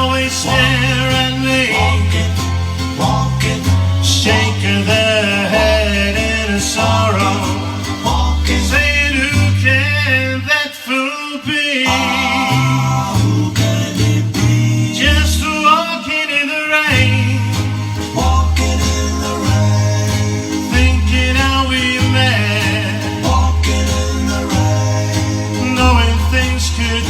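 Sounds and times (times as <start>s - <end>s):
country bass and guitar: 0.0s - 27.0s
man singing: 0.0s - 27.0s.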